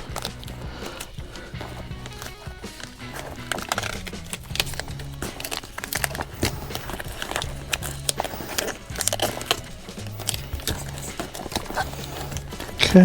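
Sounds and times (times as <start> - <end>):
background music with bass: 0.0 - 13.0.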